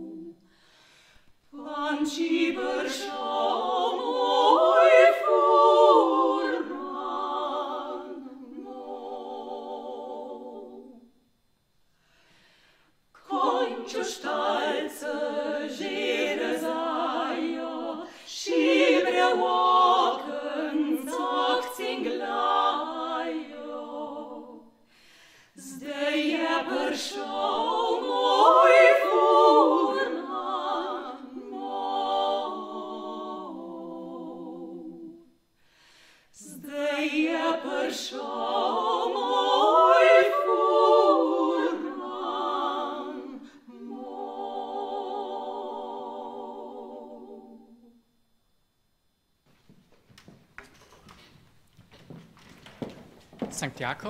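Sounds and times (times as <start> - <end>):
women singing a cappella harmony: 0.0 - 11.4, 12.3 - 48.3.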